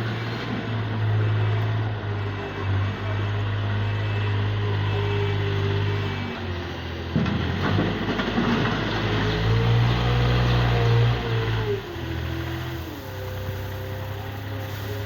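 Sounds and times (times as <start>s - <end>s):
construction vehicle engine running: 0.0s - 15.0s.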